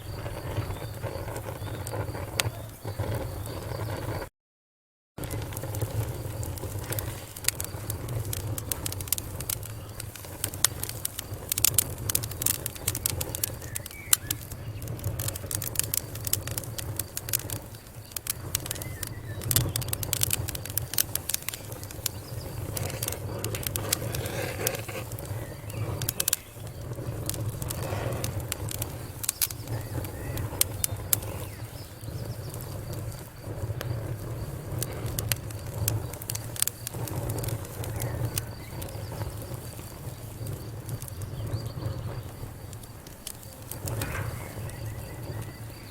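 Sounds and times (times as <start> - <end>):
wood fire crackling: 0.0 - 4.3, 5.2 - 45.9.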